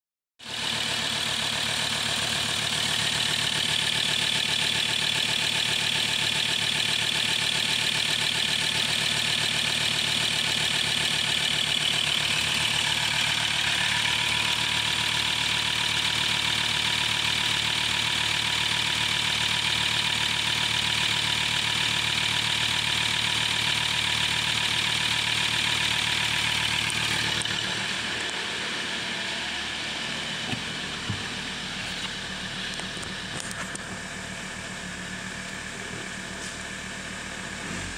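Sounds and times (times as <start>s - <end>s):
diesel engine idling: 0.4s - 37.9s.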